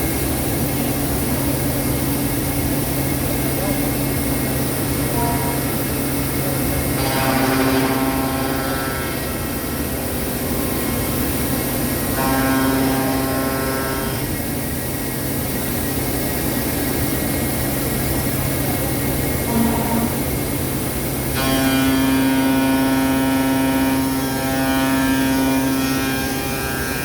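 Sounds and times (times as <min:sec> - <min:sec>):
machine hum: 0:00.0 - 0:15.0, 0:17.6 - 0:27.0
multi-tone machine whine: 0:00.0 - 0:27.0.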